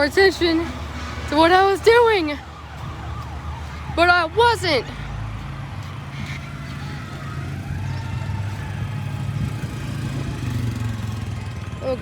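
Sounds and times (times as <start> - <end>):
distant siren wailing: 0.0 - 11.3
vehicle engine rumble: 0.0 - 12.0.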